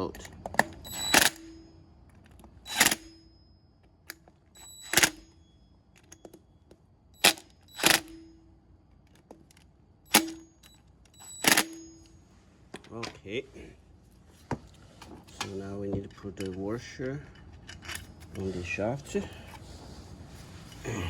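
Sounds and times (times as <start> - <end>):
metallic clinks of tool on bolt: 0.0 - 13.2, 15.4 - 19.6.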